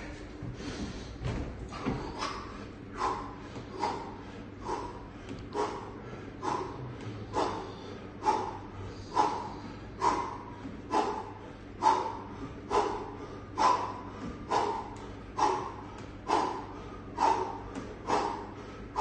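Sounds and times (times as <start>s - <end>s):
steady low hum: 0.0s - 19.0s
boxer grunting exhalations: 1.1s - 19.0s.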